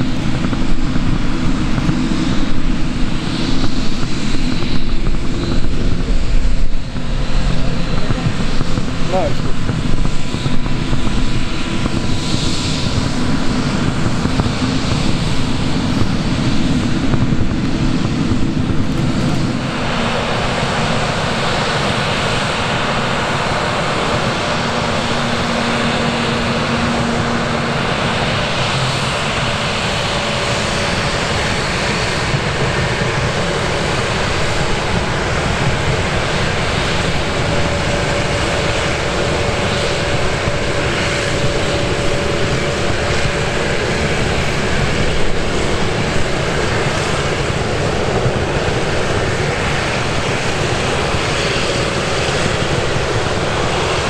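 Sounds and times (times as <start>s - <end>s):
jet engines running: 0.0s - 54.0s
wind buffeting microphone: 0.0s - 54.0s.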